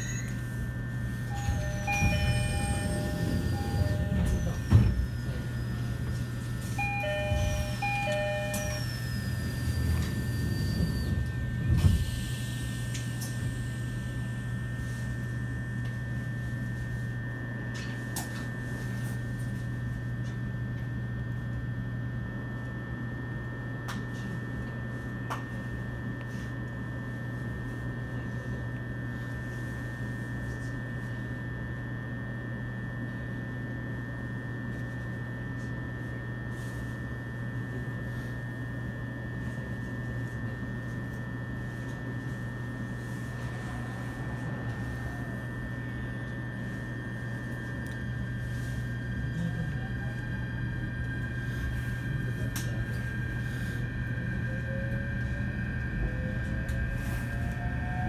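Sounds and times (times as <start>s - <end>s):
electric train equipment humming: 0.0s - 58.0s.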